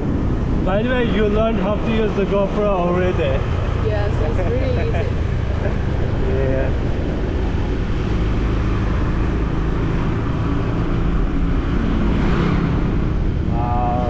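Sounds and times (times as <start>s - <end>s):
vehicle rumble and wind noise: 0.0s - 14.0s.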